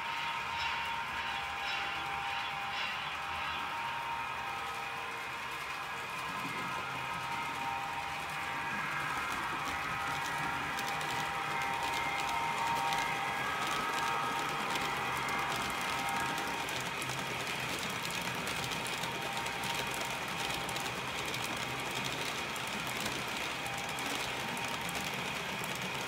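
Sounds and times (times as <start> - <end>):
model train wheels rattling: 0.0 - 26.0
small motor whir: 0.0 - 26.0.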